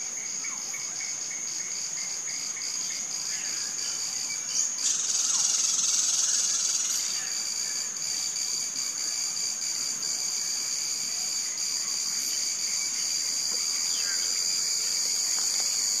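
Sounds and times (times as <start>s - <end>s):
insect chorus: 0.0s - 16.0s.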